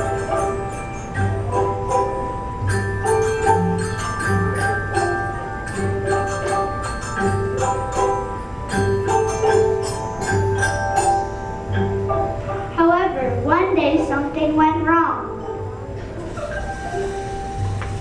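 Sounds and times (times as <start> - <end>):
pitched percussion notes: 0.0 - 18.0.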